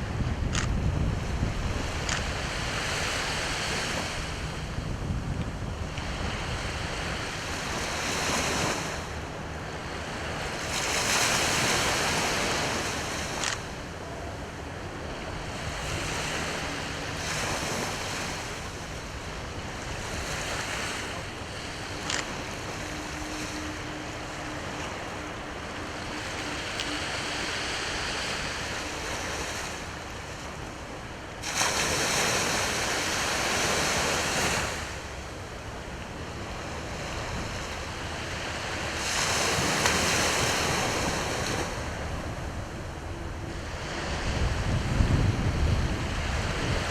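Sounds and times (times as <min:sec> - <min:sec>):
sea waves washing ashore: 0:00.0 - 0:46.9.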